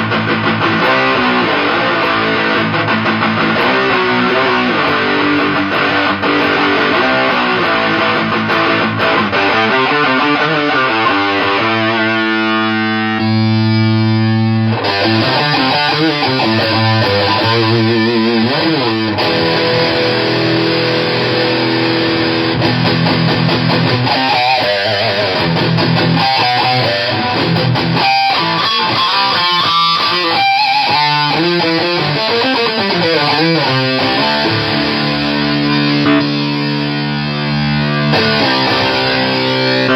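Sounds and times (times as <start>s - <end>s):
fuzz-distorted electric guitar riffs: 0.0s - 39.9s.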